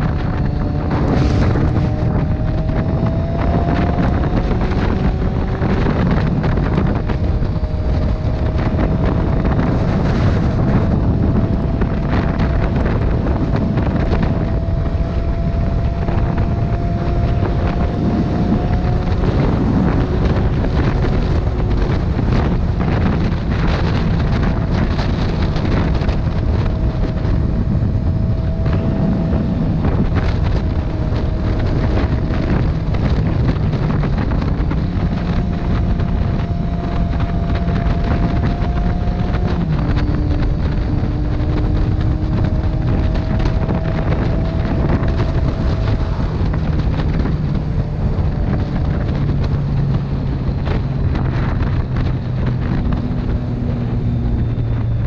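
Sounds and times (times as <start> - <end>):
motorcycle engine hum: 0.0 - 55.0
wind buffeting microphone: 0.0 - 55.0.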